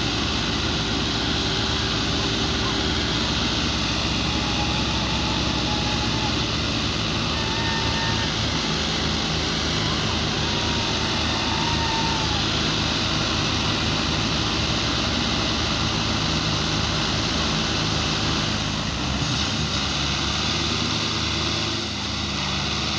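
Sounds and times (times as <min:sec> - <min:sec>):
tractor diesel engines under load: 0:00.0 - 0:22.9.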